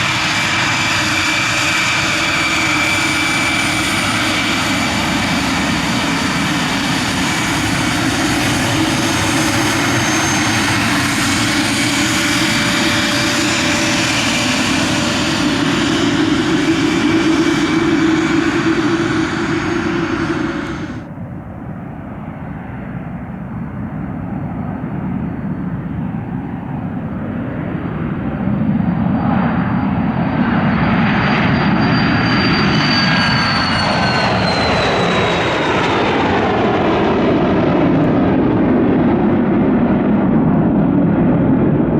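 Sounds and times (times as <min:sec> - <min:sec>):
aircraft engines roaring and whining: 0:00.0 - 0:41.9.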